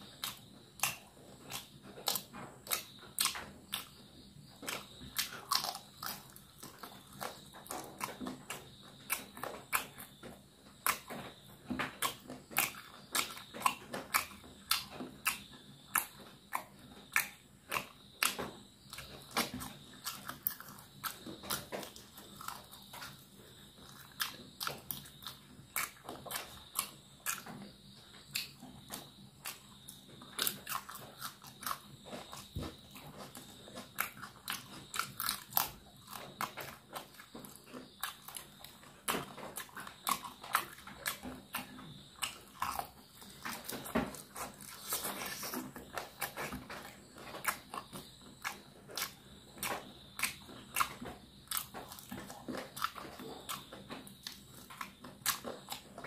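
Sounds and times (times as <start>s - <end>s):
chewing and lip smacks: 0.0s - 56.0s.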